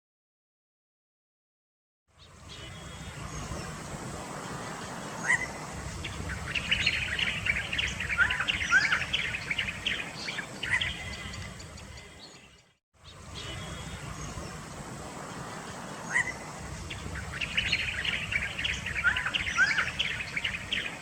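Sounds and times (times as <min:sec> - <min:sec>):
birds chirping: 0:02.2 - 0:21.0.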